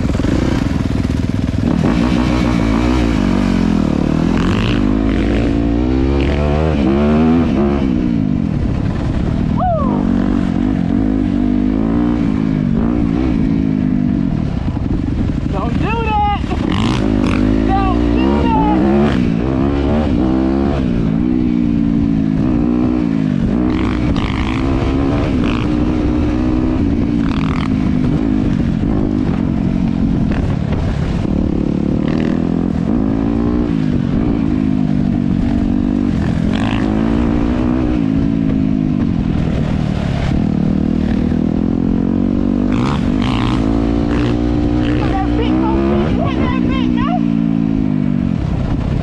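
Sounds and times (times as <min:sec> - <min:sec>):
dirt bike engine revving: 0:00.0 - 0:48.9
wind rumble on microphone: 0:00.0 - 0:49.0.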